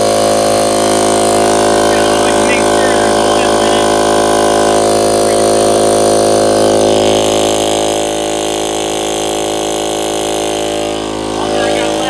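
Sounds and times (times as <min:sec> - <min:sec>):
air compressor droning: 0:00.0 - 0:12.0.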